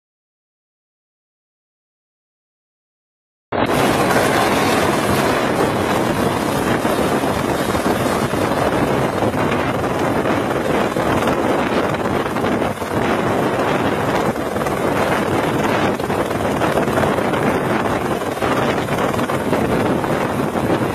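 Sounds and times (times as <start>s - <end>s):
helicopter rotor and engine: 3.6s - 20.9s
wind buffeting microphone: 3.6s - 20.9s.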